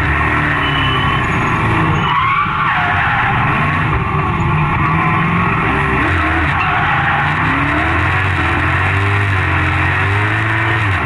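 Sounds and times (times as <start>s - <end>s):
car engine revving: 0.0s - 11.0s
tyres squealing: 0.1s - 10.4s.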